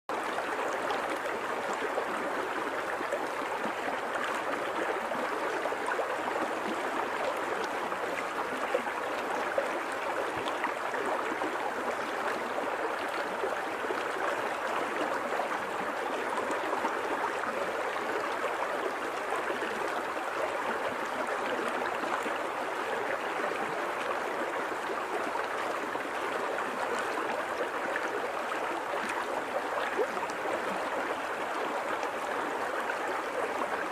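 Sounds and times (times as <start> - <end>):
river water babbling over rocks: 0.1 - 33.9.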